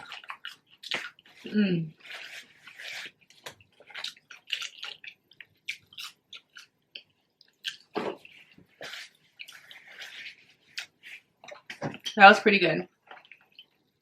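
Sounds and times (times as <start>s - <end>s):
person chewing crunchy food: 0.0s - 12.2s, 13.0s - 14.0s.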